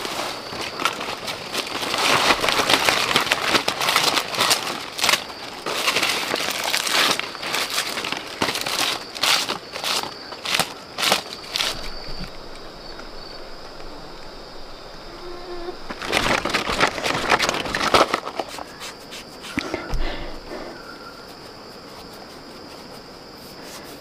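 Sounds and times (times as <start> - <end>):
crickets droning: 0.0 - 24.0
rustling and crackling: 0.0 - 24.0.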